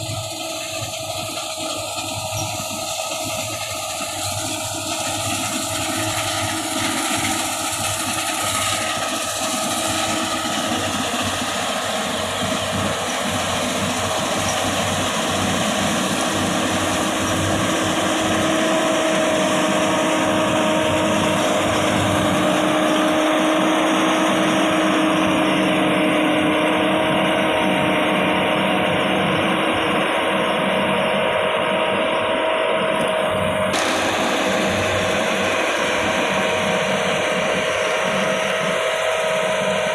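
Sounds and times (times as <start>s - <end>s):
combine harvester engine whine: 0.0s - 39.9s.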